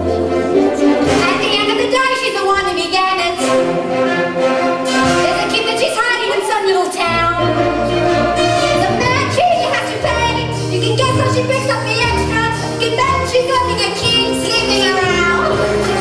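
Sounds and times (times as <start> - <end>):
orchestral accompaniment: 0.0 - 16.0.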